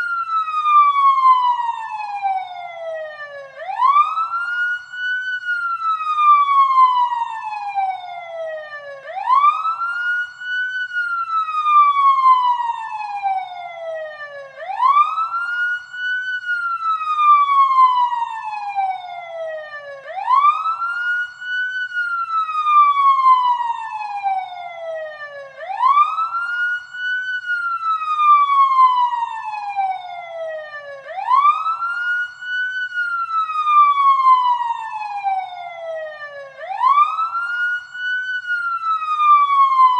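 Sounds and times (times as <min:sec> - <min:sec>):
wailing siren: 0:00.0 - 0:39.9.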